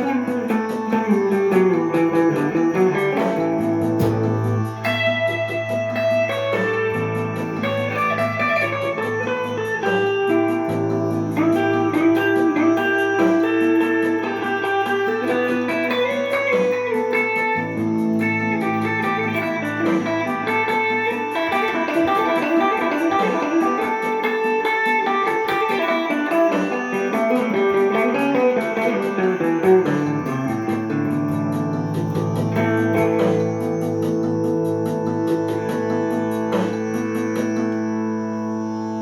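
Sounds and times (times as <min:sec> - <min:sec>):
electric guitar melody: 0:00.0 - 0:39.0.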